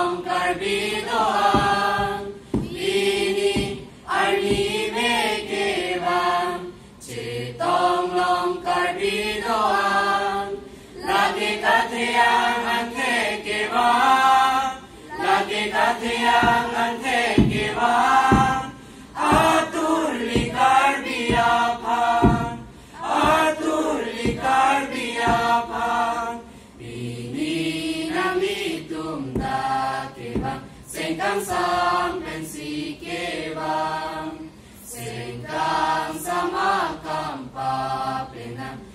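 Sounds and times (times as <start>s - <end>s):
children's choir singing: 0.0s - 38.9s.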